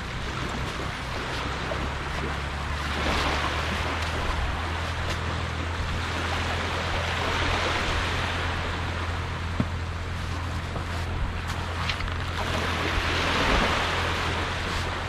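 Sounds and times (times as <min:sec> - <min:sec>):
low rumble: 0:00.0 - 0:15.0
small waves washing onto beach: 0:00.0 - 0:15.0.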